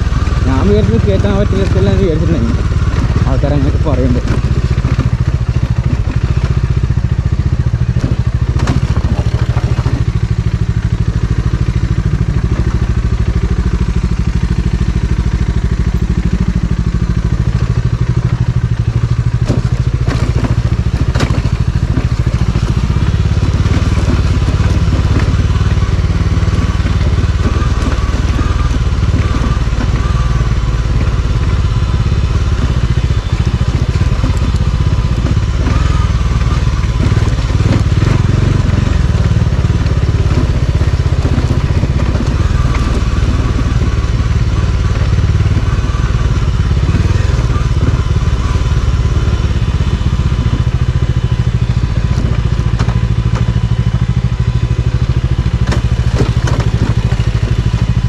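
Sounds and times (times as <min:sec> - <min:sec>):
motorcycle engine running: 0:00.0 - 0:58.0
sharp knocks and rattles: 0:00.0 - 0:58.0.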